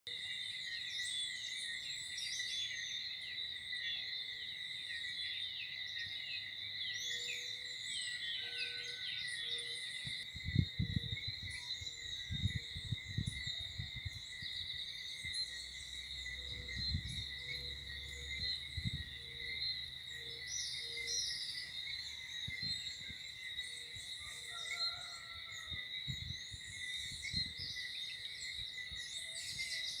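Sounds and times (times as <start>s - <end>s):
birds chirping and calling: 0.1s - 30.0s
high insect chorus: 0.1s - 30.0s.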